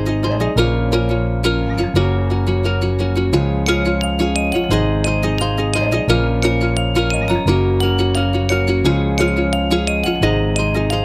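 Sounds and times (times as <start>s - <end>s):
held bass notes: 0.0s - 11.0s
plucked string notes: 0.0s - 11.0s.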